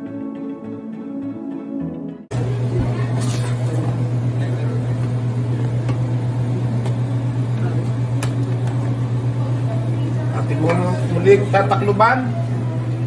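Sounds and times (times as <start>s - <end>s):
low hum: 2.3s - 13.0s.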